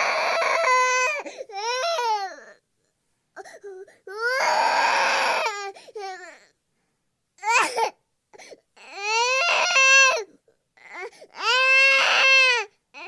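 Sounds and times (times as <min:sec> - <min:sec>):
infant crying: 0:00.0 - 0:02.6, 0:03.4 - 0:06.5, 0:07.4 - 0:08.0, 0:08.8 - 0:13.0.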